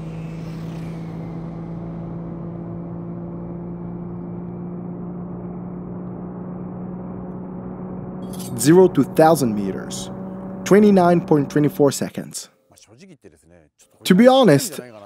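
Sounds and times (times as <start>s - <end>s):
engine droning at high revs: 0.0s - 12.2s.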